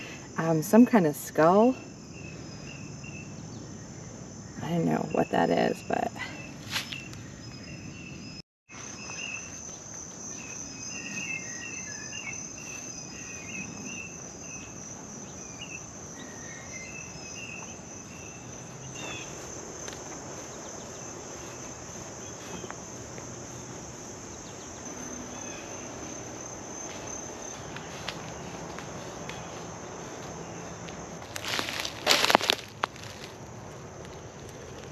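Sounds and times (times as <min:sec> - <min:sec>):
insects trilling: 0:00.0 - 0:34.9.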